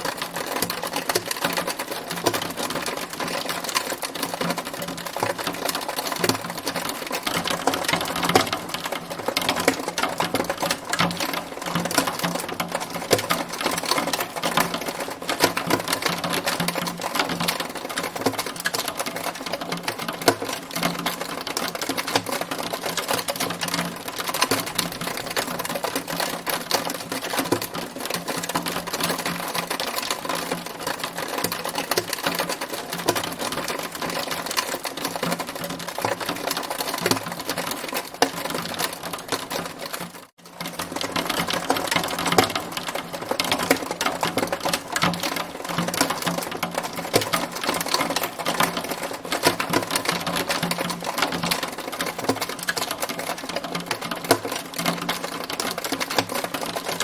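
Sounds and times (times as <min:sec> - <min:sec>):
hailstones pelting down: 0:00.0 - 0:57.0.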